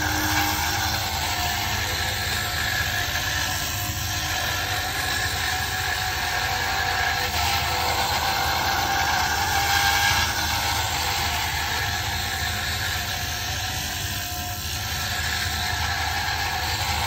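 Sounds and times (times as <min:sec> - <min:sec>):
cutter scraping wood: 0:00.0 - 0:17.0
lathe motor hum: 0:00.0 - 0:17.0.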